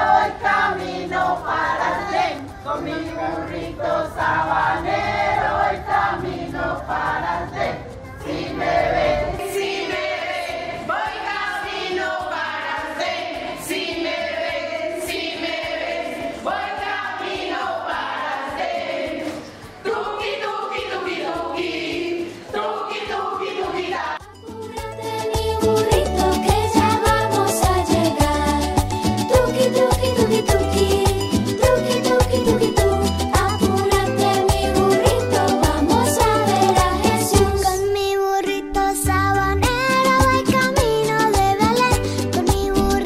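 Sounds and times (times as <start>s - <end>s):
women singing in chorus: 0.0s - 38.0s.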